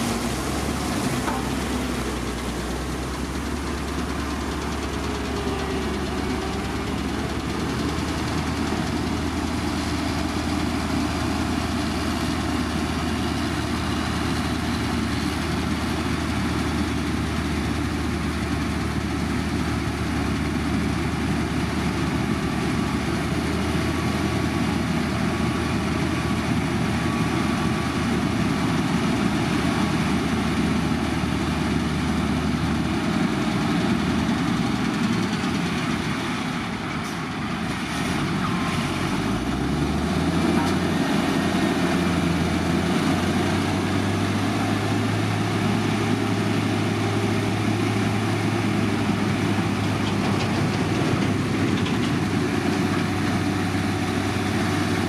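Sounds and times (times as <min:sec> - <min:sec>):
heavy machinery engine drone: 0:00.0 - 0:55.0.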